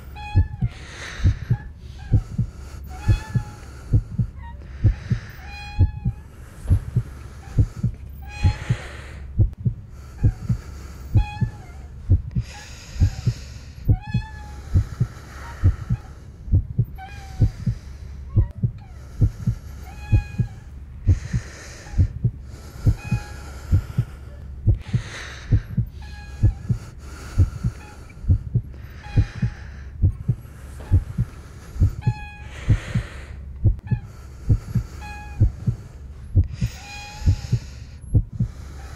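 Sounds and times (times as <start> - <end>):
heartbeat thumps: 0.0 - 38.6.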